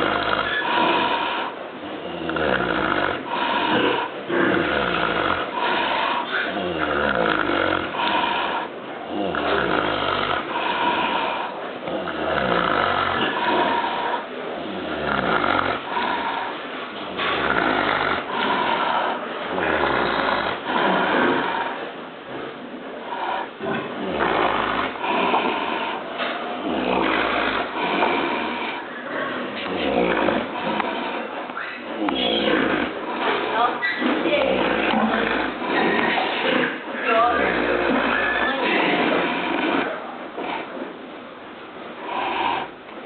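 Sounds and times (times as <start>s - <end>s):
pig snoring: 0.0s - 40.9s, 42.0s - 42.8s.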